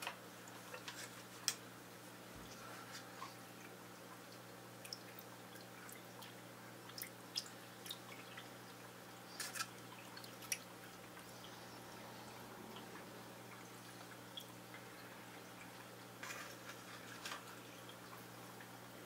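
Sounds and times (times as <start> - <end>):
faint water drips: 0.0 - 19.0
low electrical hum: 0.0 - 19.0.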